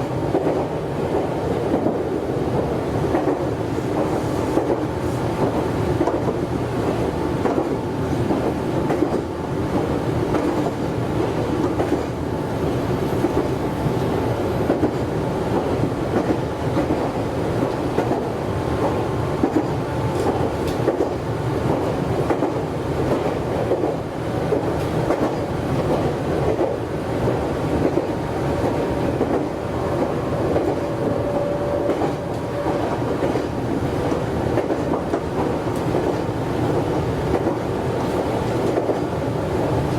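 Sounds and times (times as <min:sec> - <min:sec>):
clickety-clack of rail joints: 0:00.0 - 0:39.9
train wheels rumbling on rail: 0:00.0 - 0:39.9.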